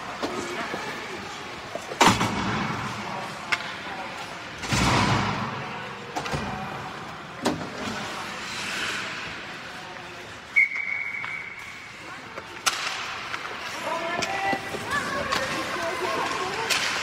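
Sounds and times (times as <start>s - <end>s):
hockey sticks and pucks clacking: 0.0s - 5.5s, 6.1s - 17.0s.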